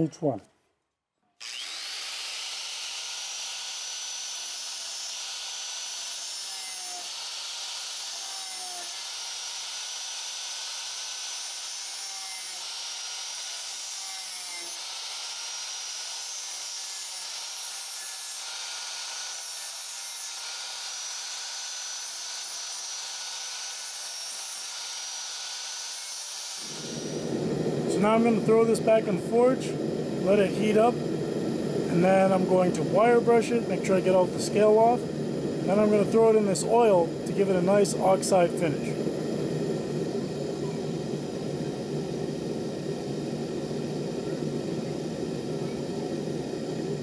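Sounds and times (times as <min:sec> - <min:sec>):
angle grinder cutting steel: 0:01.4 - 0:39.2.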